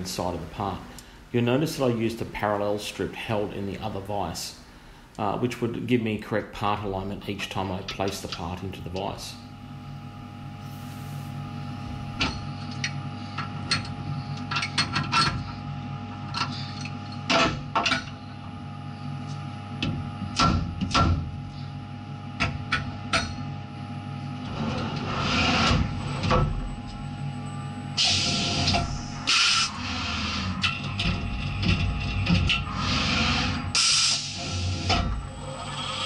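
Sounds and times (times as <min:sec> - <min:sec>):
milling machine hum: 0:06.9 - 0:36.0.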